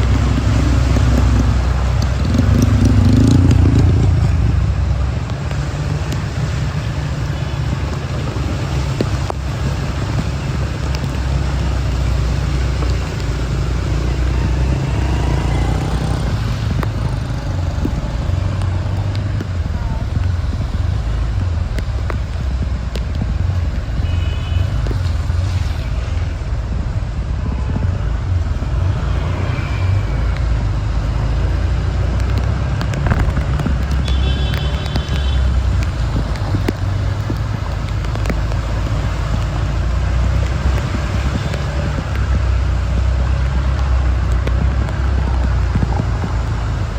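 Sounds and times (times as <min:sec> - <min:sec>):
road traffic rumble: 0:00.0 - 0:46.9.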